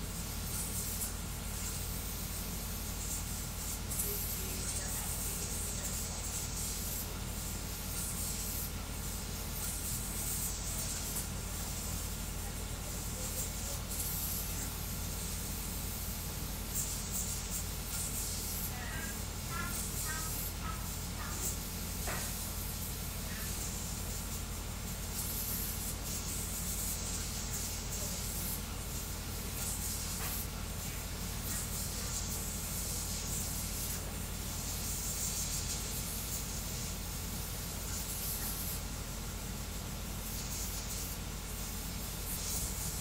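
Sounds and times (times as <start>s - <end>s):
cooling fans hissing: 0.0s - 43.0s.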